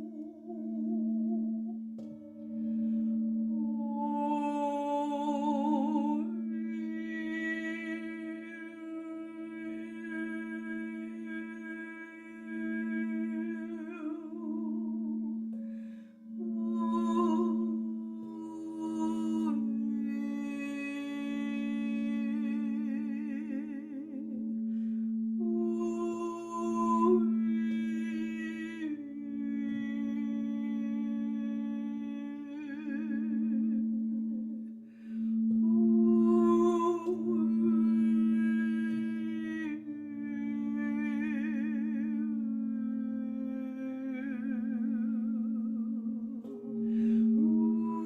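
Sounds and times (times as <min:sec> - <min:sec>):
woman humming: 0:00.0 - 0:15.8, 0:16.4 - 0:24.4, 0:25.4 - 0:34.6, 0:35.5 - 0:48.0
woman singing wordless held notes: 0:03.6 - 0:15.2, 0:16.4 - 0:24.4, 0:25.4 - 0:33.8, 0:35.6 - 0:45.6, 0:46.2 - 0:48.0.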